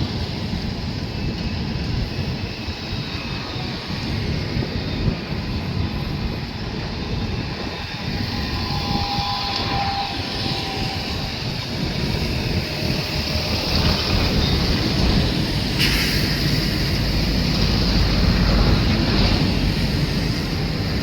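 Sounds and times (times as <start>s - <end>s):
train rumble and rail noise: 0.0s - 21.0s.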